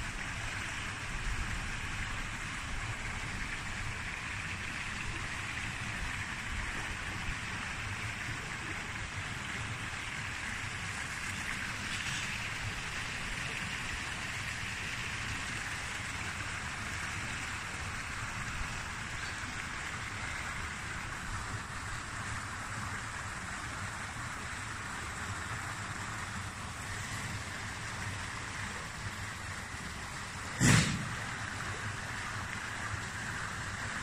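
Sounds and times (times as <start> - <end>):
water pouring into a pool: 0.0 - 34.0.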